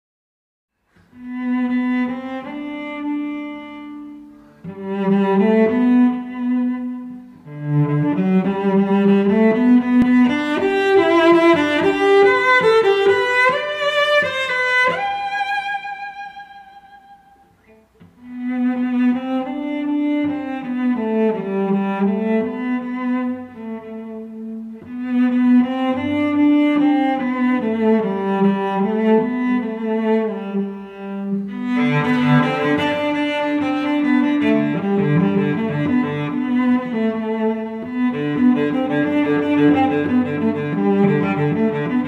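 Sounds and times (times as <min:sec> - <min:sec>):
slow cello string music: 0:00.8 - 0:42.0.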